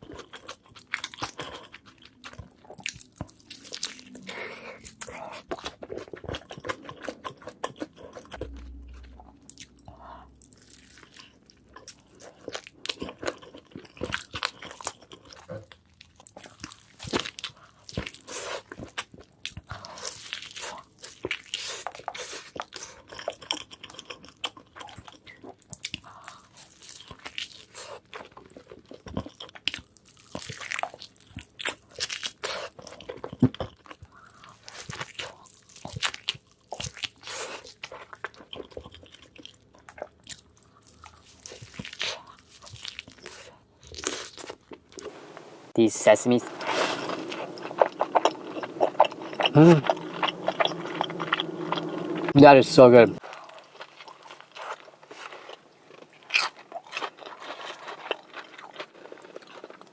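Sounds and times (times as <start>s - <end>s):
crunchy chewing of fried food: 0.0s - 45.6s, 46.2s - 59.9s.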